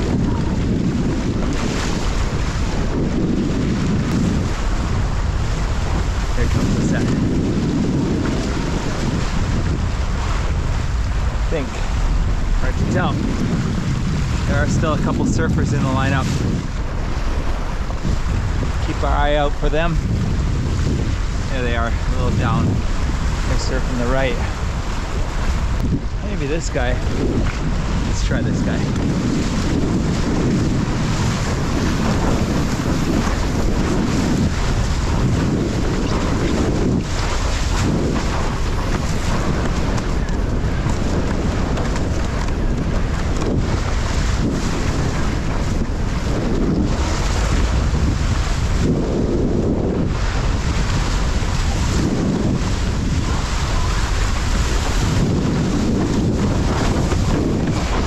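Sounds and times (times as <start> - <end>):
water rushing under board: 0.0 - 58.0
wind buffeting microphone: 0.0 - 58.0.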